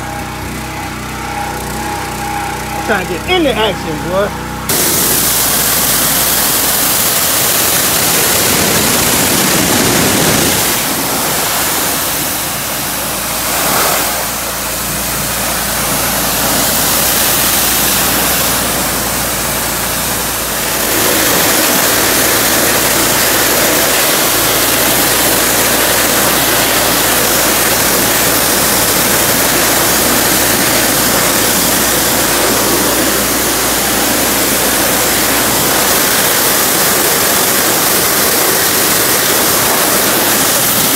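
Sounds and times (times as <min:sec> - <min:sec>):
pressure washer engine running: 0:00.0 - 0:40.9
pressure washer spray hissing: 0:04.7 - 0:40.9.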